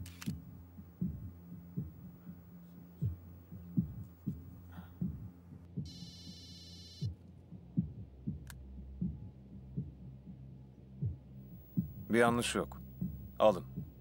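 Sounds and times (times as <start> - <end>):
heartbeat-like low thumps: 0.0 - 6.1, 7.0 - 14.0
low steady drone: 0.0 - 14.0.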